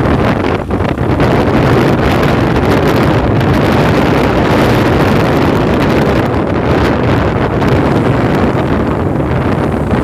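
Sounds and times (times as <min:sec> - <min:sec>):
road noise: 0:00.0 - 0:10.0
wind buffeting microphone: 0:00.0 - 0:10.0.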